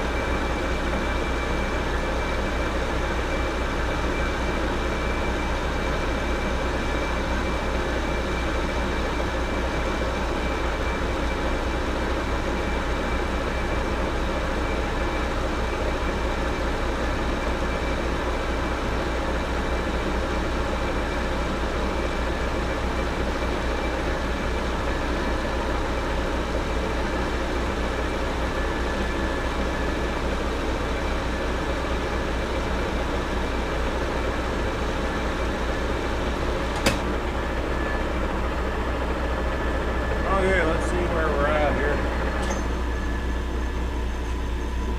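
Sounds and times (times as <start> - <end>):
lathe humming with high whine: 0.0 - 44.9.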